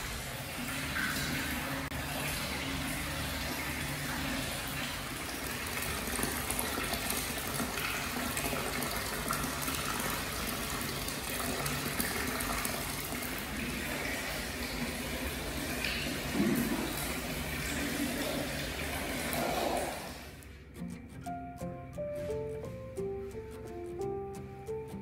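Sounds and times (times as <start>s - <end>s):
water pouring into a bath: 0.0s - 20.4s.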